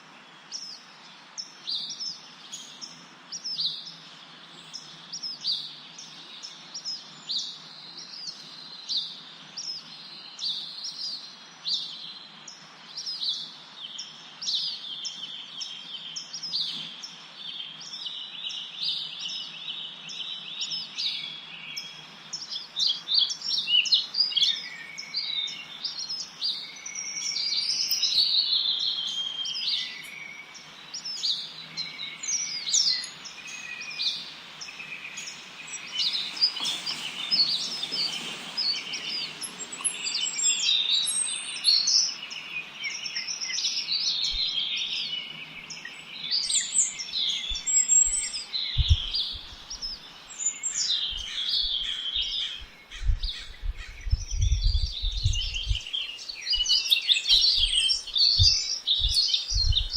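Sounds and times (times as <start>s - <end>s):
faint steady hiss: 0.0s - 59.9s
songbirds chirping: 0.0s - 59.9s.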